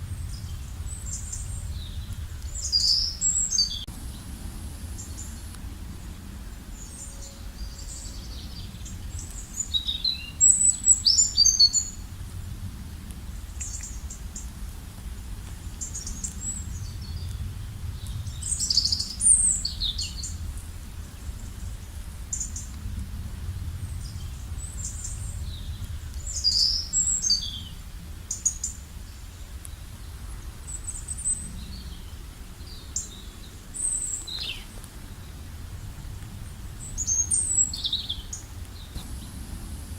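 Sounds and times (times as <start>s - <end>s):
songbirds singing: 0.0s - 14.6s, 15.4s - 23.0s, 23.6s - 39.9s
low background rumble: 0.0s - 39.9s.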